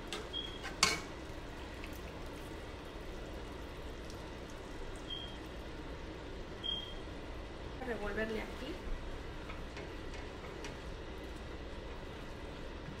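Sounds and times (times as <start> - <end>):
sauce bubbling in a pan: 0.0 - 7.8, 8.5 - 13.0.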